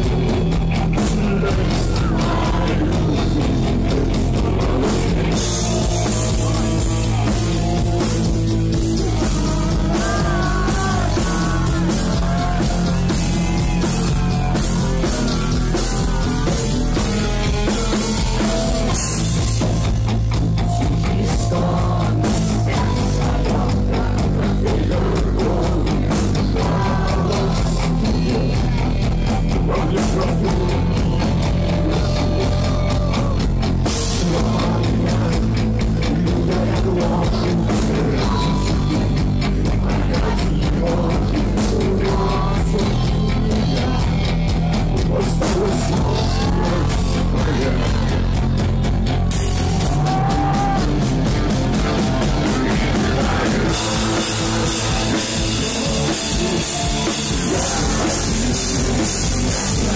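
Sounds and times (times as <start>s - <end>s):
man singing: 0.0s - 59.9s
punk rock band playing: 0.0s - 59.9s.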